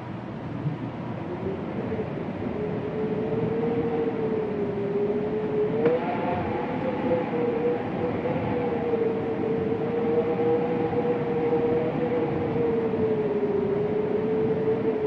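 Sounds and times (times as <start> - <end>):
wind moaning: 0.5 - 15.0.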